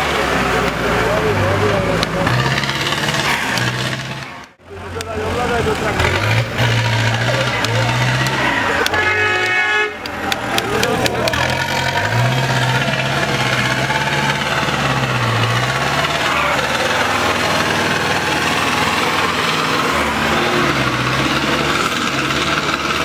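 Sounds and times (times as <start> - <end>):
tractor diesel engine working hard: 0.0 - 23.0.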